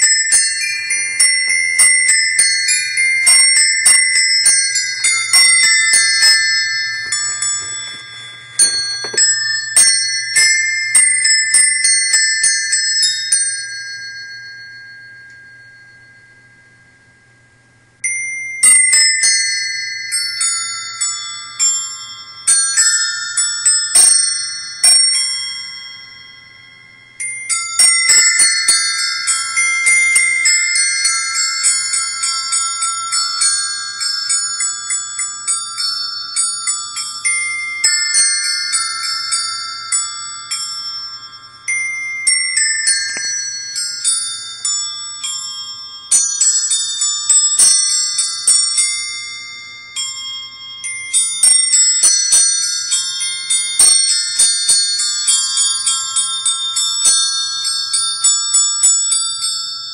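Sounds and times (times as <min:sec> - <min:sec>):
small metal bells chiming a tune: 0:00.0 - 0:59.9.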